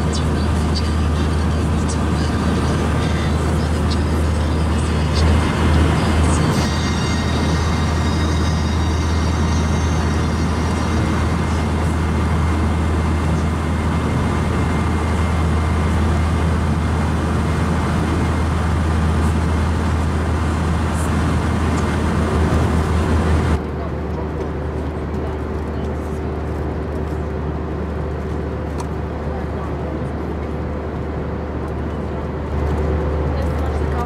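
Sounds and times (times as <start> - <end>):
airplane cabin airflow and engines: 0.0 - 34.0
constant low hum: 0.0 - 34.0.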